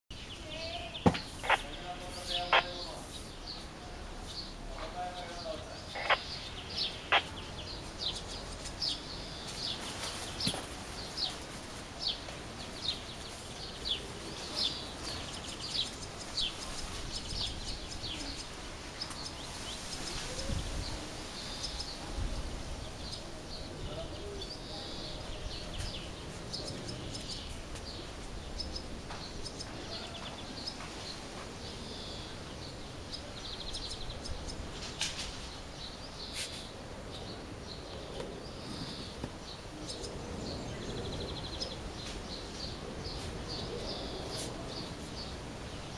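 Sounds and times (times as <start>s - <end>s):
swallows chirping and twittering: 0.1s - 45.9s.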